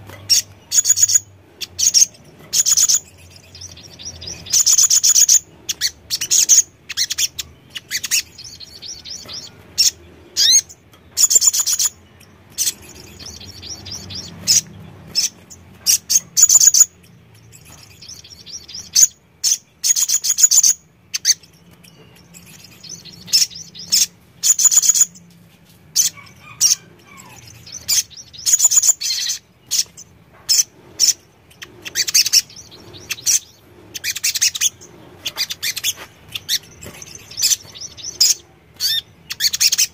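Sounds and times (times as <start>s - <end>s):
bird twittering: 0.3s - 25.2s, 26.0s - 39.9s.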